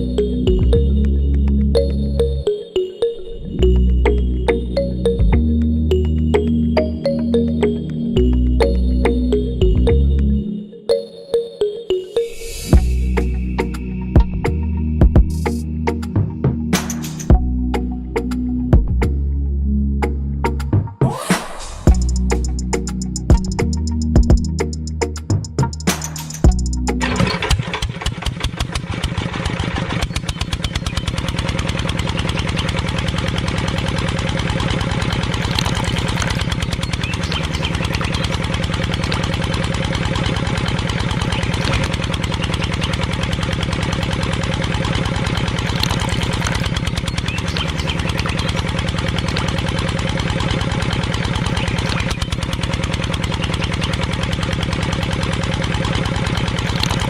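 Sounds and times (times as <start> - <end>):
small engine running: 0.0 - 2.8, 3.6 - 10.6, 12.3 - 18.5, 21.3 - 57.0.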